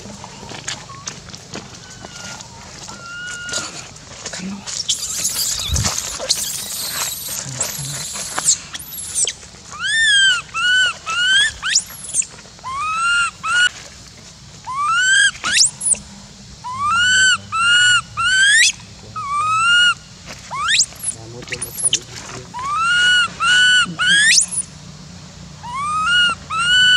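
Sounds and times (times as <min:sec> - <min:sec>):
baby monkey screaming: 0:01.8 - 0:03.9, 0:04.8 - 0:13.8, 0:14.6 - 0:16.0, 0:16.6 - 0:24.7, 0:25.6 - 0:26.9.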